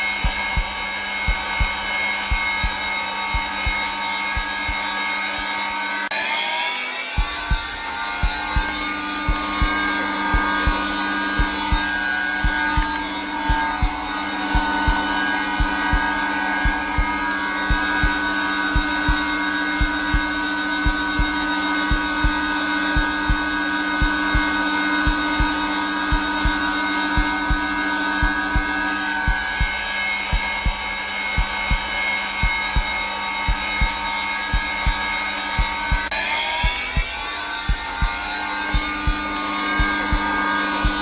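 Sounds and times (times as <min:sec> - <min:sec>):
heartbeat thumping: 0:00.0 - 0:05.5, 0:07.2 - 0:41.0
vacuum cleaner motor running: 0:00.0 - 0:41.0.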